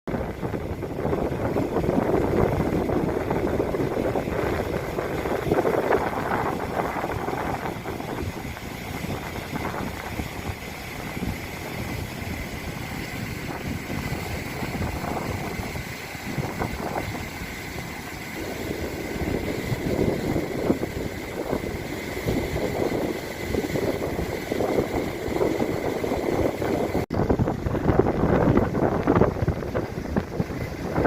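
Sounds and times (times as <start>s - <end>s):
wind buffeting microphone: 0.1s - 31.0s.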